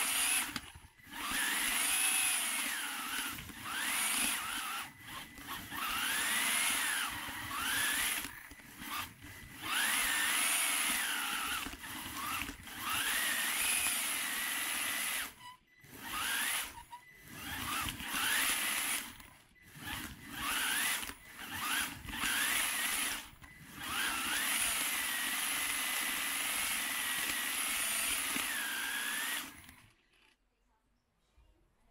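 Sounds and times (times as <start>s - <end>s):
toy car motor whining: 0.0s - 30.4s.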